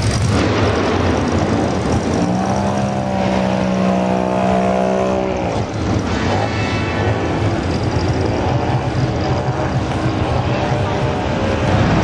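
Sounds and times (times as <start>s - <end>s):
muscle car engines rumbling: 0.0s - 12.0s.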